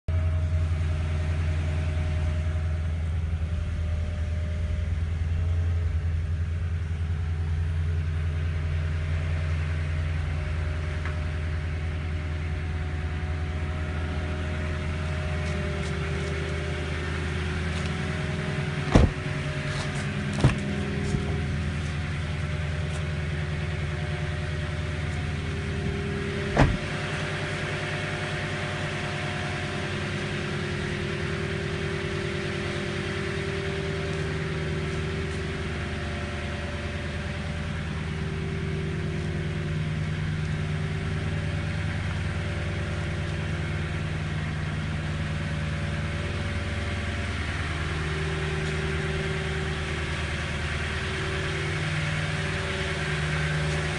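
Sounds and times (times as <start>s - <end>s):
car engine idling: 0.1s - 53.9s.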